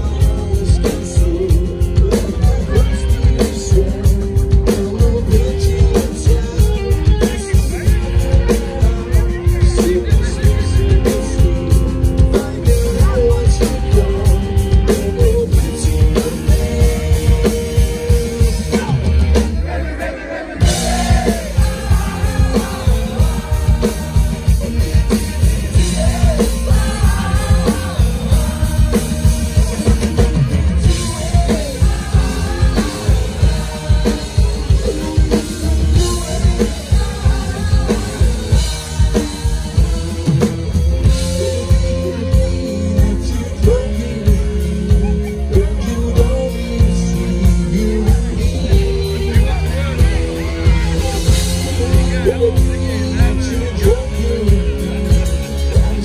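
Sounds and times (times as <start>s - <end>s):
drum kit beat: 0.0s - 56.0s
live rock band playing: 0.0s - 56.0s
person singing: 0.0s - 56.0s.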